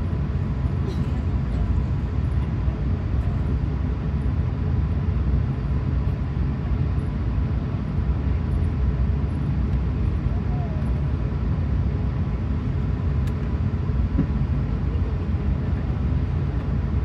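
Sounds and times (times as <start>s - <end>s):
aircraft engines rumbling in cabin: 0.0s - 17.0s.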